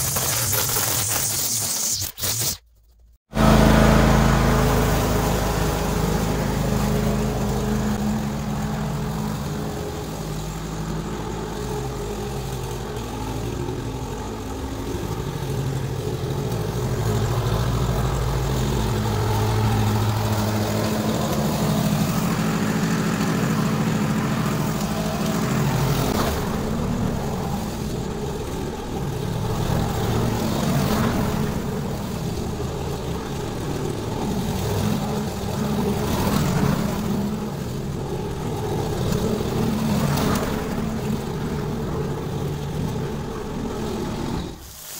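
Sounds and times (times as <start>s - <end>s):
lawn mower cutting grass: 3.3s - 44.9s.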